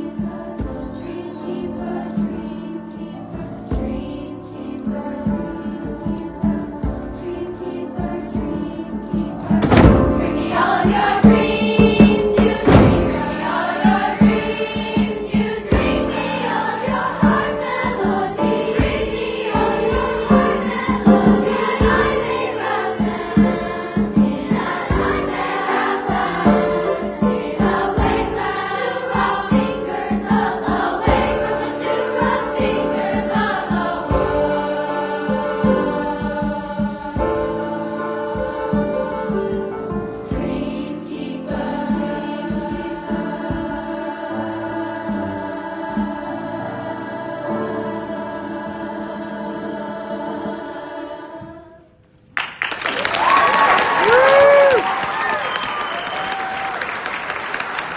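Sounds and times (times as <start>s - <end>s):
choir singing in parts: 0.0s - 52.3s
low accompanying strokes: 0.0s - 52.3s.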